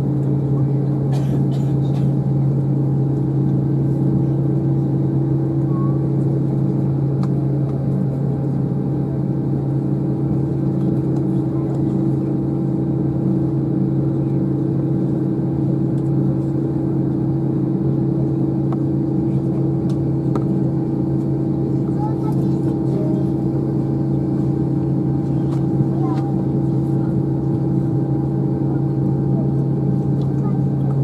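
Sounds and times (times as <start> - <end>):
aircraft cabin hum: 0.0 - 31.0.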